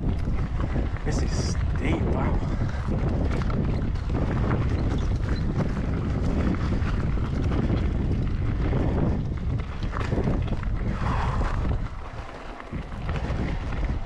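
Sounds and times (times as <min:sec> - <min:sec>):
bike knocks and rattles: 0:00.0 - 0:14.0
wind buffeting microphone: 0:00.0 - 0:14.0.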